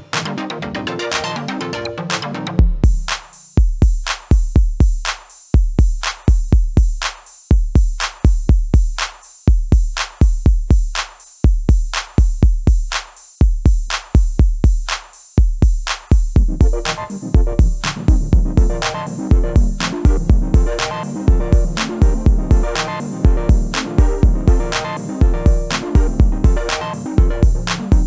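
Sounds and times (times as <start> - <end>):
drum machine beat: 2.1 - 28.0.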